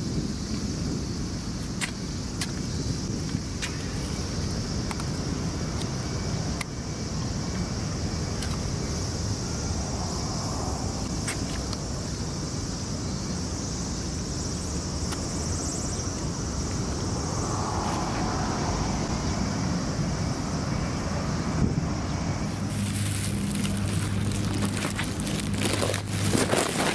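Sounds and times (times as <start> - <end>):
wind rumble: 0.0 - 26.9
distant engine noise: 2.2 - 26.9.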